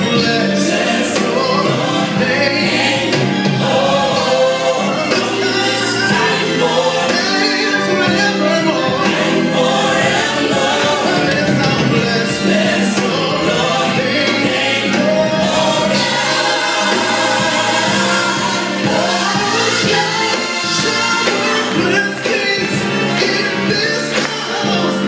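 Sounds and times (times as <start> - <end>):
gospel choir singing: 0.0 - 25.0
instrumental accompaniment: 0.0 - 25.0.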